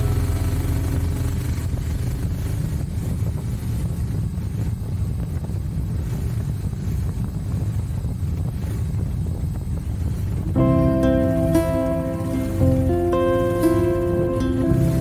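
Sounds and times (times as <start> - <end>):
motorcycle engine rumbling: 0.0 - 15.0
wind buffeting the microphone: 0.2 - 15.0.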